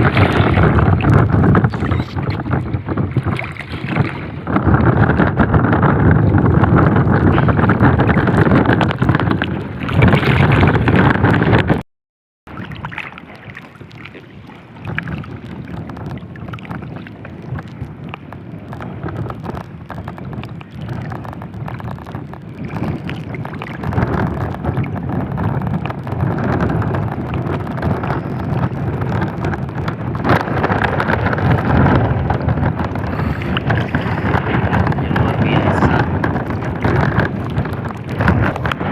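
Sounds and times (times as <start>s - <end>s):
strong wind buffeting microphone: 0.0s - 11.8s, 12.5s - 38.9s.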